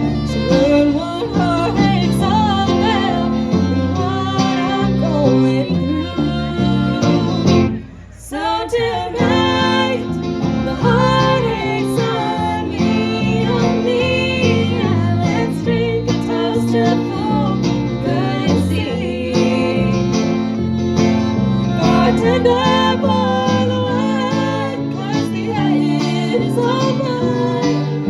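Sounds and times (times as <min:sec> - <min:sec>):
moving bass line: 0:00.0 - 0:07.9, 0:09.0 - 0:28.0
country band playing: 0:00.0 - 0:08.1, 0:08.9 - 0:28.0
guitars: 0:00.0 - 0:28.0.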